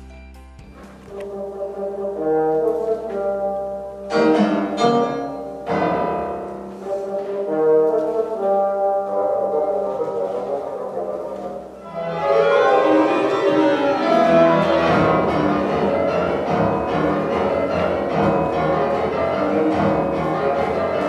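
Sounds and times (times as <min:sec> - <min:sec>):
orchestral music led by brass: 0:00.8 - 0:21.0.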